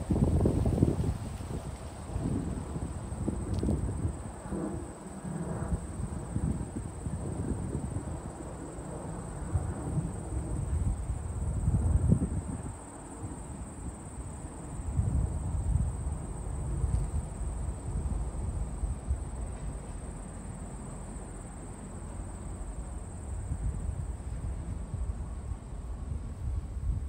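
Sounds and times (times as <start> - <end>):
wind buffeting microphone: 0.0 - 20.3, 23.2 - 27.0.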